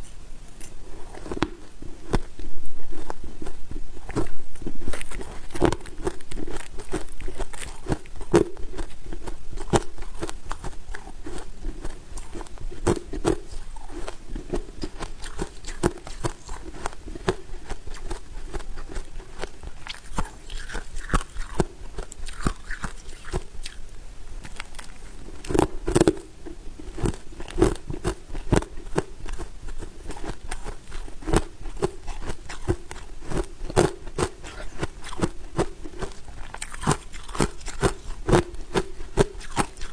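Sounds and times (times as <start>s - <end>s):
crunchy chewing of frost: 0.0s - 39.9s.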